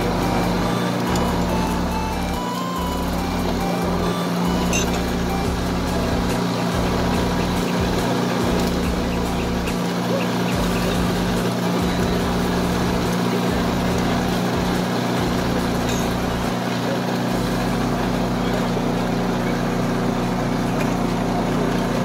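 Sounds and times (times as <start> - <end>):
motor humming steadily: 0.0 - 22.0.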